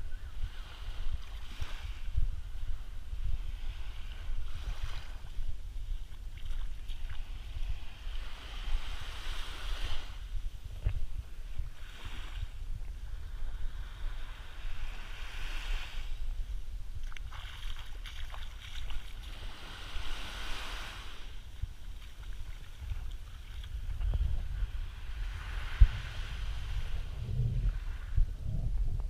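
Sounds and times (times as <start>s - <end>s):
wind buffeting microphone: 0.0s - 29.0s
waves lapping on beach: 0.3s - 10.6s, 11.2s - 28.2s.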